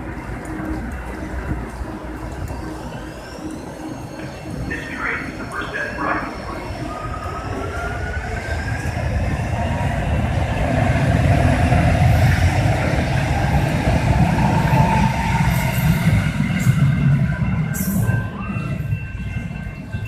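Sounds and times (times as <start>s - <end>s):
train rumble and rattle on rails: 0.0s - 20.0s.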